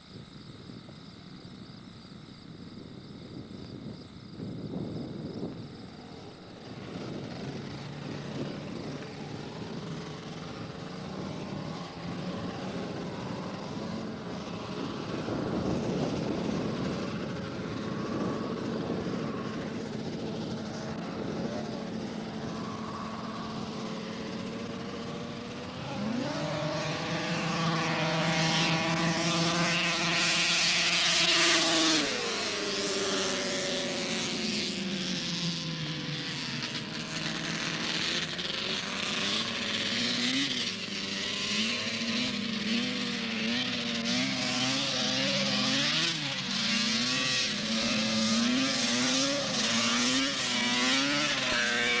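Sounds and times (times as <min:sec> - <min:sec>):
snowmobile engine revving: 0:06.6 - 0:52.0.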